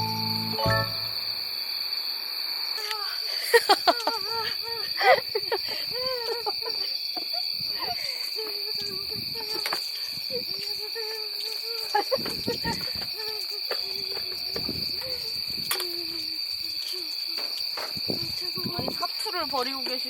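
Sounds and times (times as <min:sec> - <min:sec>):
high insect trilling: 0:02.6 - 0:20.0.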